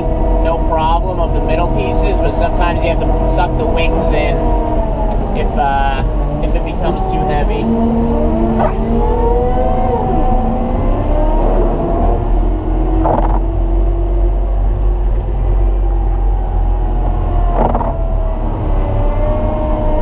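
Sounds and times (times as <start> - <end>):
diesel engine under load: 0.0 - 20.0
engine whine: 0.0 - 20.0.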